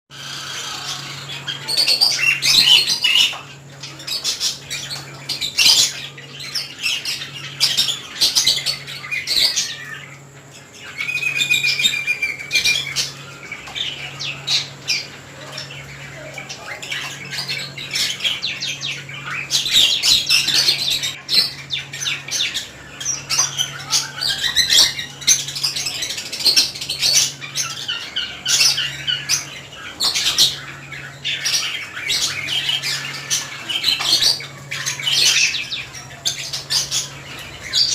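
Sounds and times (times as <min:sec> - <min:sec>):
budgerigars chirping and squawking: 0:00.1 - 0:37.9.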